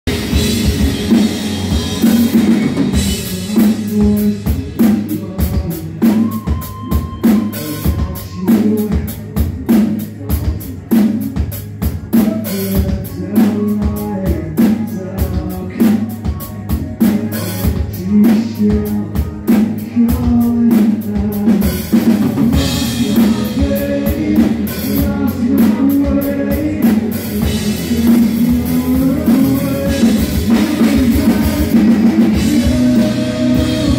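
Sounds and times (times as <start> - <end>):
drum kit beating: 0.0 - 33.9
electric guitars: 0.1 - 9.4, 11.7 - 33.9.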